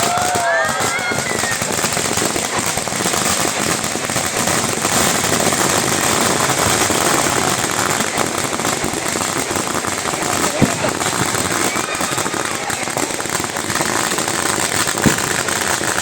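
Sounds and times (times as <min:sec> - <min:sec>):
firecrackers crackling rapidly: 0:00.0 - 0:16.0.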